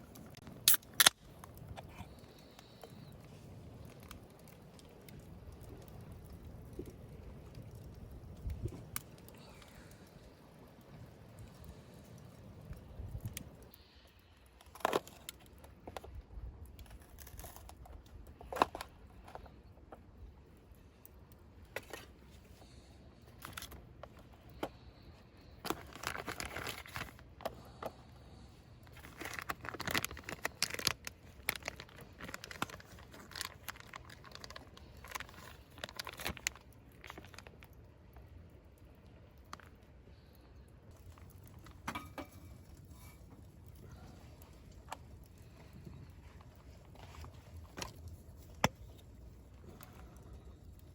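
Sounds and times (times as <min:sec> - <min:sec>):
crinkling and rustling: 0:00.0 - 0:50.9.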